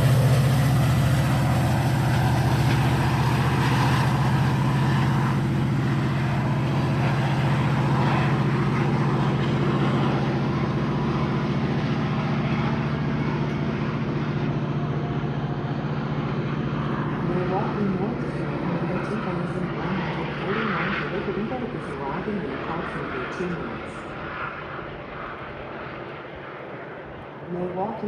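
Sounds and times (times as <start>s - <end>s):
diesel locomotive engine hum: 0.0s - 28.0s.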